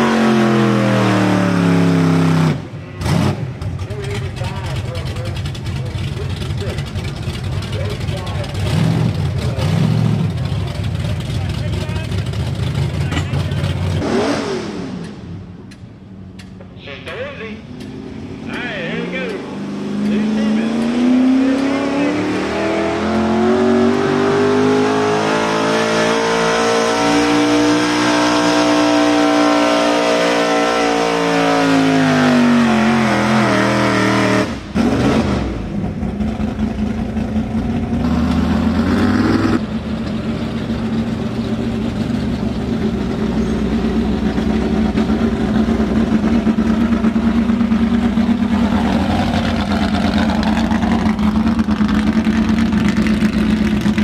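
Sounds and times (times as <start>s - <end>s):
truck engine revving hard: 0.0s - 3.7s, 7.8s - 11.1s, 11.7s - 15.1s, 18.0s - 39.7s, 42.7s - 54.0s.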